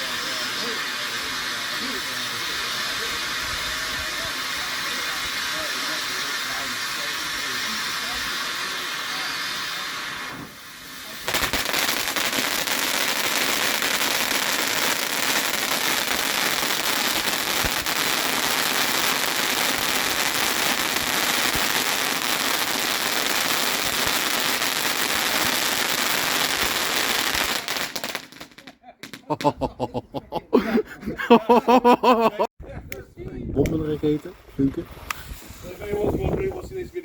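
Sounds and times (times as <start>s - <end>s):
fireworks crackling: 0.0s - 29.9s, 33.6s - 37.0s.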